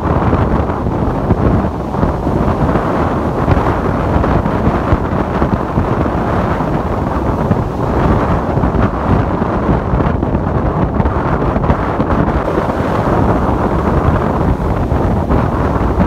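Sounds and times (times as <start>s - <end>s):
ocean waves washing: 0.0s - 16.0s
wind buffeting microphone: 0.0s - 16.0s.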